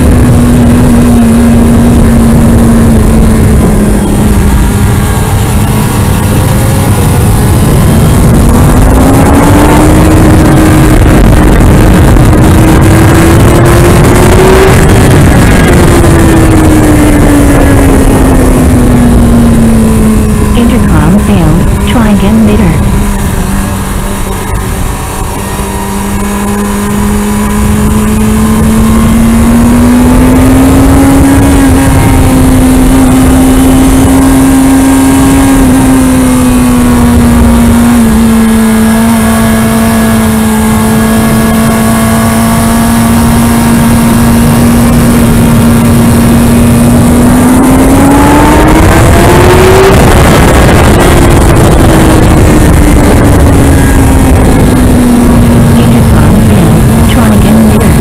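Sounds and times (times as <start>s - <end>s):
motorcycle engine at high revs: 0.0s - 58.0s
wind rush on microphone: 0.0s - 58.0s.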